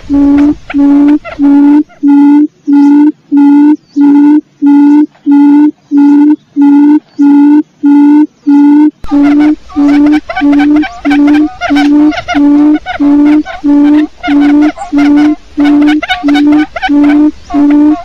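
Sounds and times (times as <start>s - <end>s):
background hiss: 0.0s - 8.1s, 9.0s - 18.0s
quail call hooting notes: 0.0s - 18.0s.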